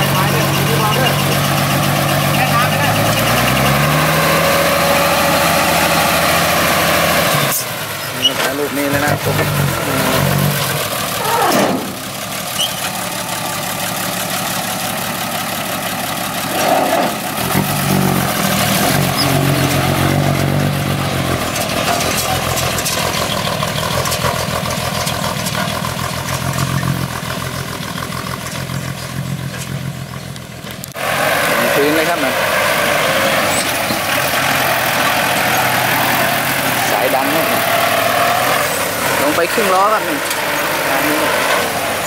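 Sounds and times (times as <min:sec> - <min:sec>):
diesel truck engine running: 0:00.0 - 0:42.0
truck driving over dirt: 0:00.0 - 0:42.0.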